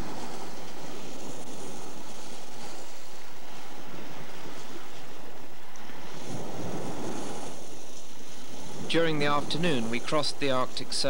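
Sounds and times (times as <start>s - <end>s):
sea water rushing past yacht: 0.0s - 11.0s
wind rushing: 0.0s - 11.0s.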